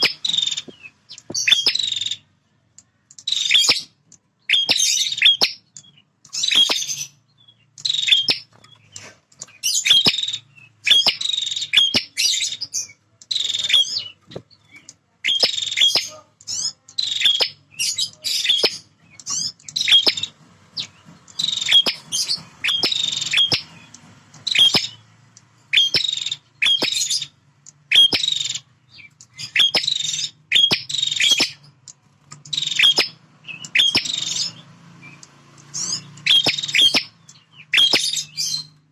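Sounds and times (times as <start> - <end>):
bird sharp rapid chirps: 0.0 - 38.9.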